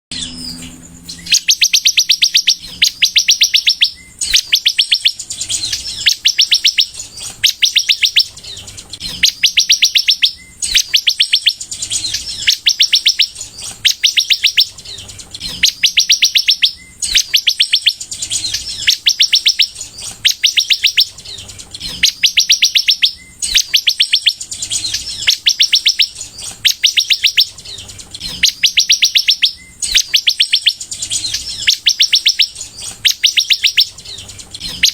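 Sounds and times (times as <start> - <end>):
bird trilling song: 0.1 - 34.9.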